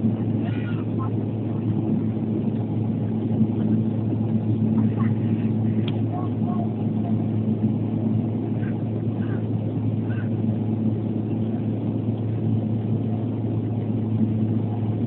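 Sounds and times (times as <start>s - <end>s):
turboprop engines droning: 0.0s - 15.0s.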